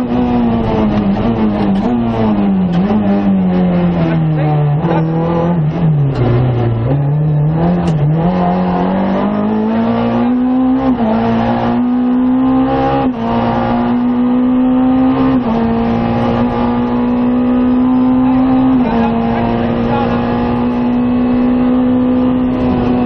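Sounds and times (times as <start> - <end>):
rally car engine from inside: 0.0 - 23.0.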